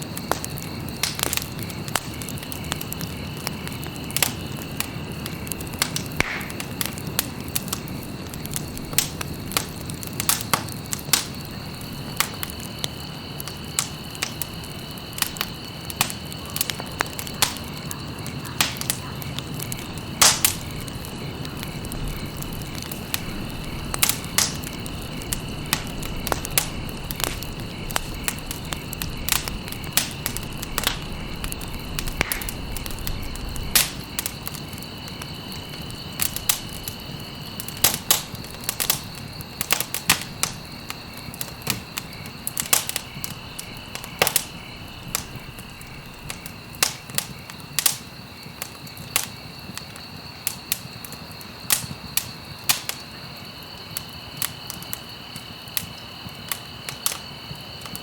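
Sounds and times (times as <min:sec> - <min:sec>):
campfire crackling and popping: 0:00.0 - 0:58.0
low rumble of burning: 0:00.0 - 0:58.0.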